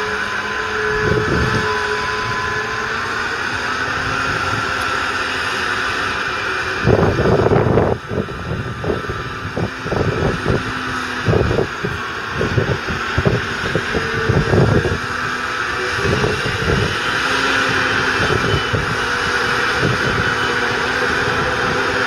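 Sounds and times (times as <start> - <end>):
tractor diesel engine running: 0.0 - 22.0
wind buffeting microphone: 0.0 - 22.0.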